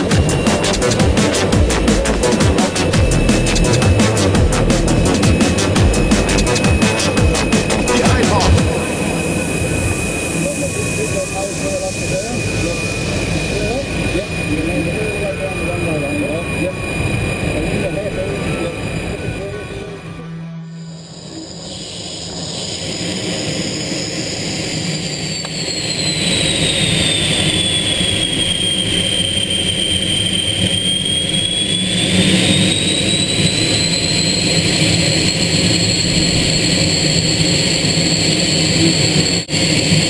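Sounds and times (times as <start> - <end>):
jet engine roaring and whining: 0.0 - 40.0.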